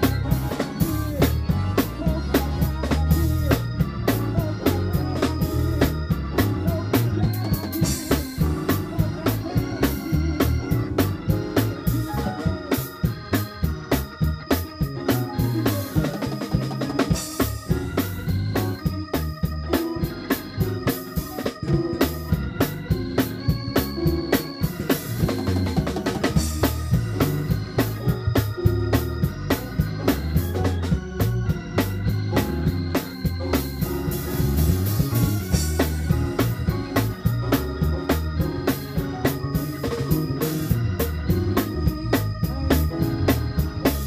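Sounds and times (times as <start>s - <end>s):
drum kit groove: 0.0s - 44.0s
electric bass: 0.0s - 44.0s
keyboards: 0.0s - 44.0s
organ chords: 0.0s - 44.0s.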